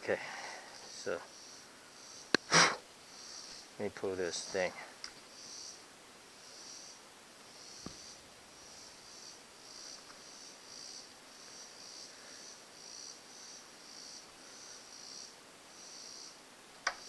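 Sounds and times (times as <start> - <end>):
insects chirping: 0.1 - 17.0.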